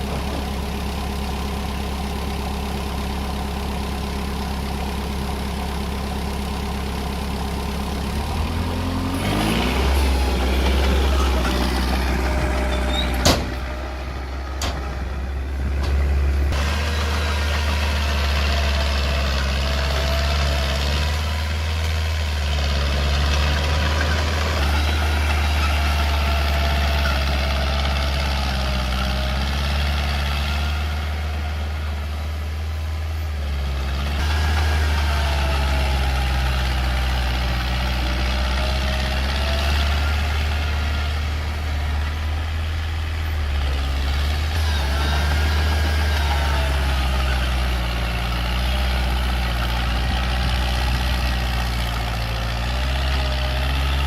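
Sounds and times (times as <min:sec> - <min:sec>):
bulldozer engine running: 0:00.0 - 0:54.0.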